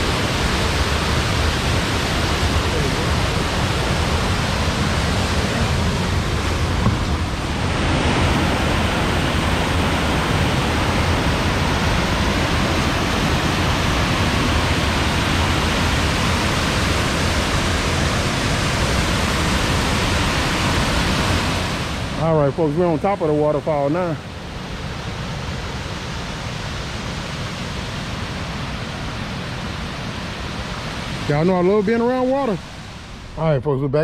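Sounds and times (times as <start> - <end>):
waterfall rushing: 0.0 - 33.4.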